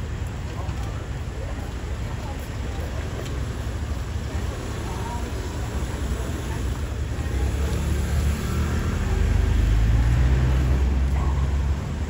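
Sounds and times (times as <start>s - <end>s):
vehicle engine rumble passing: 0.0s - 12.0s.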